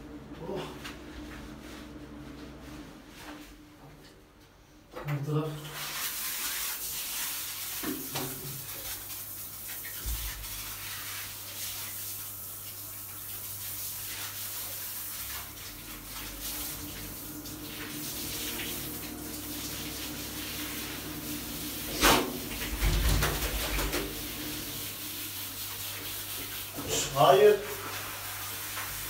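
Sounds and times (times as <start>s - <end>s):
shower head spraying water: 5.7s - 29.0s.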